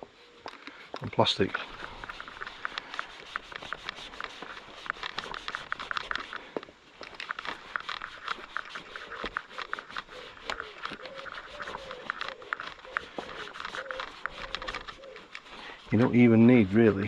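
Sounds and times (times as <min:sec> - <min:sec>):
cloth rubbing on bodywork: 0:01.2 - 0:06.5, 0:07.1 - 0:17.0.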